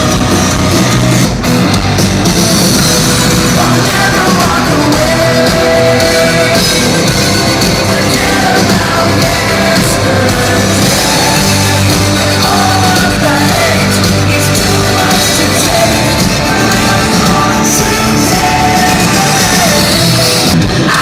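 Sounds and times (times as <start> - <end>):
loud rock music: 0.0 - 21.0
person singing: 3.1 - 21.0.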